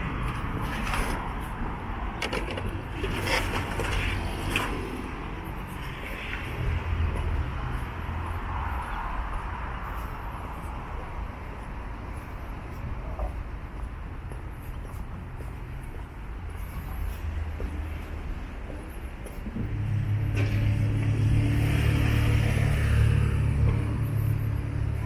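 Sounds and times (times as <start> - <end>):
vehicle engines rumbling past: 0.0 - 25.0.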